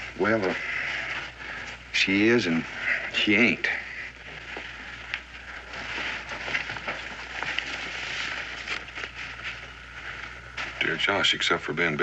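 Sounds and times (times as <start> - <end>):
paper crackling and rustling: 0.0 - 11.5.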